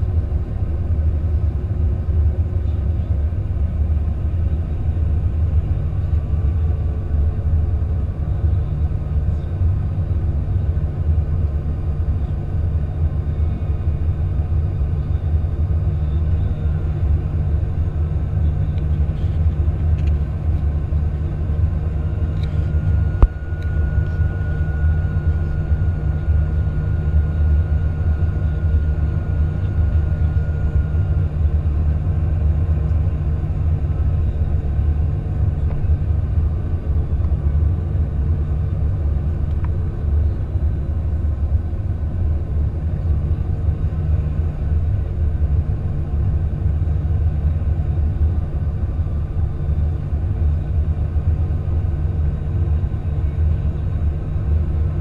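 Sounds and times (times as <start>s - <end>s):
faint steady whine: 0.0s - 55.0s
low rumble of engines and airflow: 0.0s - 55.0s.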